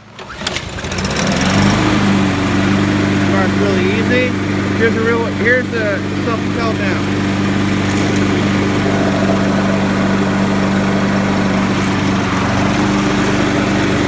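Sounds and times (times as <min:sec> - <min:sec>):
lawn mower engine humming: 0:00.0 - 0:14.0.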